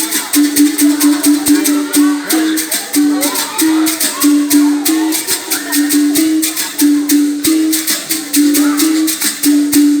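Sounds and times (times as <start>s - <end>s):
basket rattle shaking: 0.0s - 10.0s
musical bow struck in rhythm: 0.0s - 10.0s.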